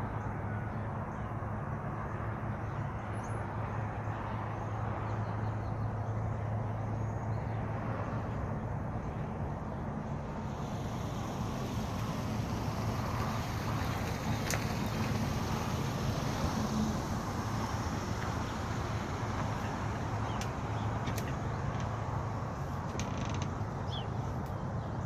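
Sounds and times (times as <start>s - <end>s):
outdoor noise: 0.0s - 25.0s.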